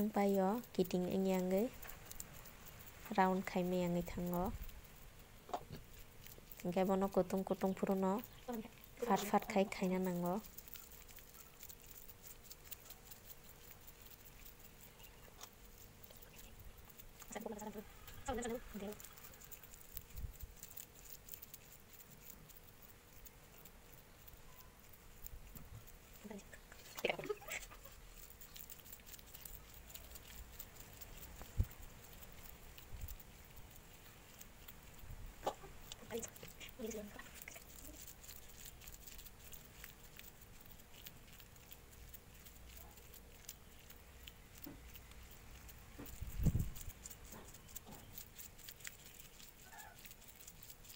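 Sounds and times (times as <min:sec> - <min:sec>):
crumbly mixture crackling in bowl: 0:00.0 - 0:50.9
low steady hum: 0:00.0 - 0:50.9.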